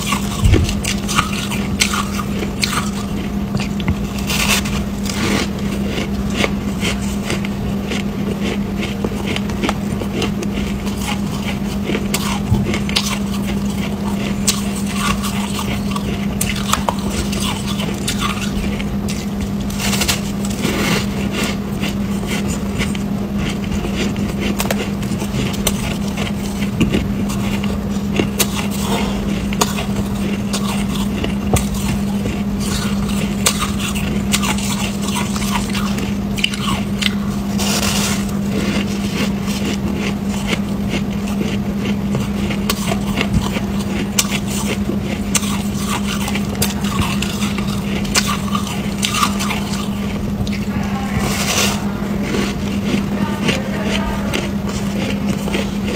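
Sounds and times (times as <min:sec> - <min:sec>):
ice being chewed: 0:00.0 - 0:55.9
steady low hum: 0:00.0 - 0:55.9.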